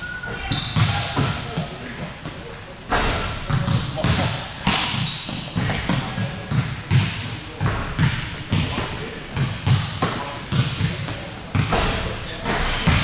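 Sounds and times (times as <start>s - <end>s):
basketballs bouncing on wood floor: 0.6s - 1.8s, 2.9s - 13.0s.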